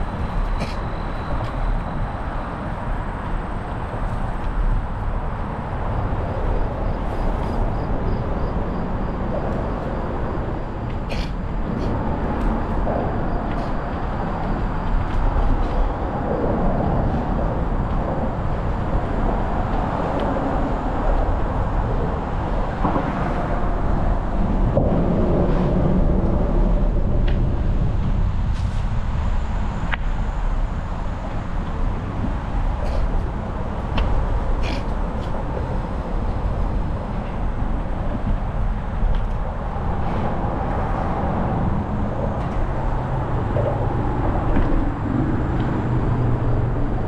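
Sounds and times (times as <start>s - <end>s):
road traffic hum: 0.0s - 47.0s
wind rumbling on microphone: 0.0s - 47.0s
bike tyre noise: 8.8s - 46.9s.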